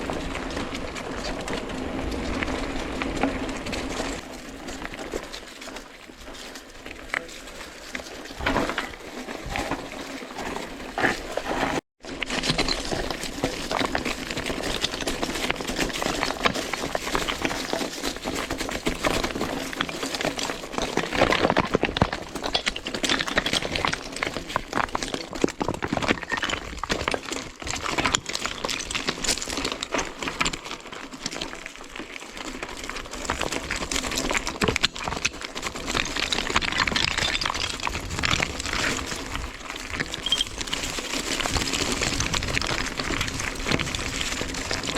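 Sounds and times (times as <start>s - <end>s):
bike rattling: 0.0s - 44.9s
tyres crunching on loose stones: 0.0s - 44.9s.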